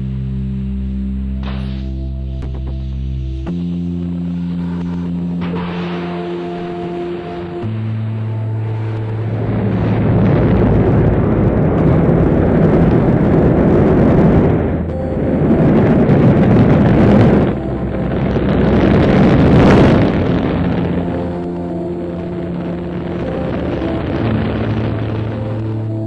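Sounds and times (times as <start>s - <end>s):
rocket engine rumble: 0.0s - 26.0s
sustained musical notes: 0.0s - 26.0s.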